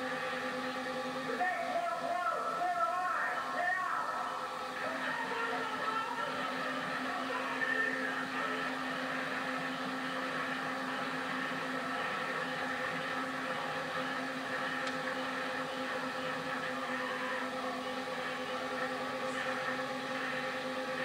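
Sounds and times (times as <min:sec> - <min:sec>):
freight train running: 0:00.0 - 0:21.0.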